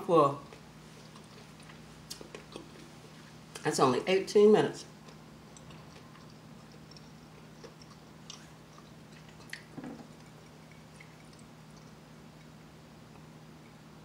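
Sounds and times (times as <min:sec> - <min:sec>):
steady low hum: 0:00.0 - 0:14.0
faint chewing and mouth sounds: 0:00.4 - 0:03.7, 0:04.8 - 0:13.9.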